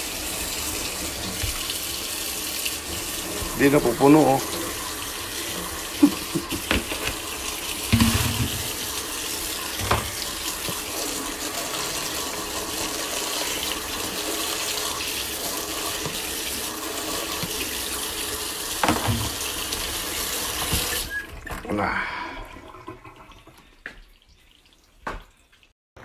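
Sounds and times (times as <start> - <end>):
faucet water splashing in sink: 0.0 - 25.7.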